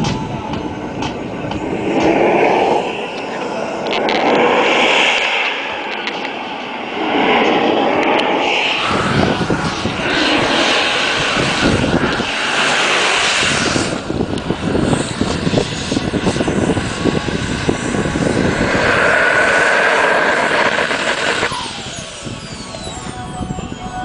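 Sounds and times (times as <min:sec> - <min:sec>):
jet turbine engine roaring: 0:00.0 - 0:24.0.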